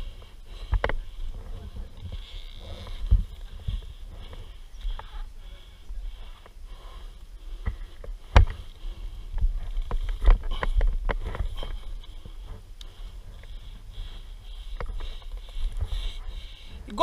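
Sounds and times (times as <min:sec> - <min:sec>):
person breathing: 0:00.0 - 0:16.9
wind rumbling on microphone: 0:00.0 - 0:17.0.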